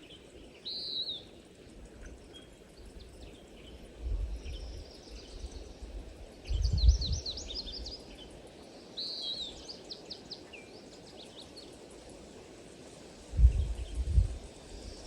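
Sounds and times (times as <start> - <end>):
small birds chirping: 0.0 - 12.2
faint background hiss: 0.0 - 15.0.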